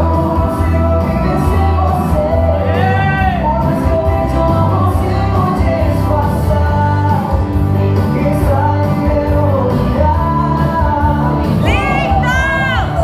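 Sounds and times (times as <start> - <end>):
song with sung vocals and bass: 0.0 - 13.0.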